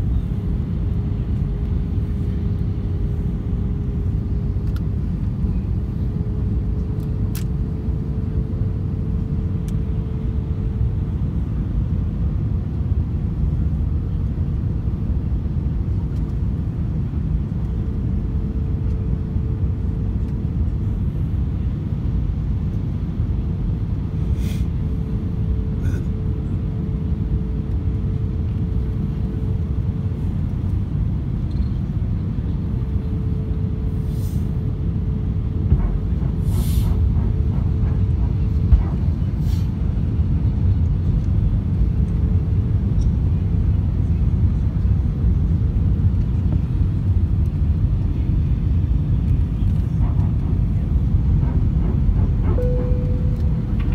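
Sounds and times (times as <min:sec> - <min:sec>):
airliner cabin engine rumble: 0:00.0 - 0:53.9.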